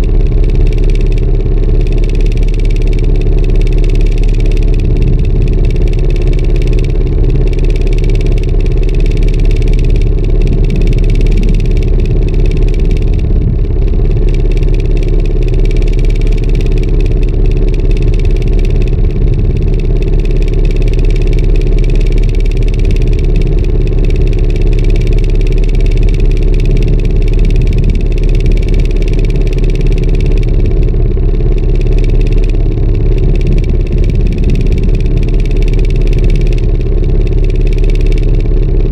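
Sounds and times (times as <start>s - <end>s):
boat engine humming: 0.0s - 38.9s.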